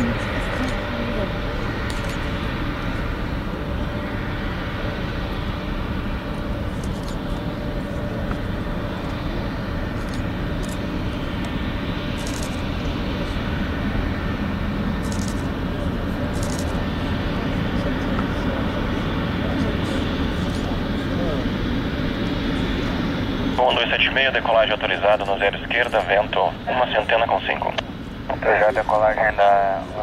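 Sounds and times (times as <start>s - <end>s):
jet engines at taxi power: 0.0s - 30.0s.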